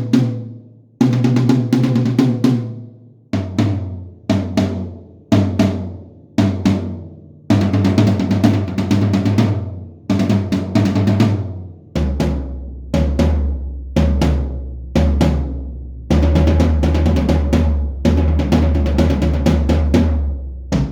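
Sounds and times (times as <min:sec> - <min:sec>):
drums struck in rolls: 0:00.0 - 0:20.9.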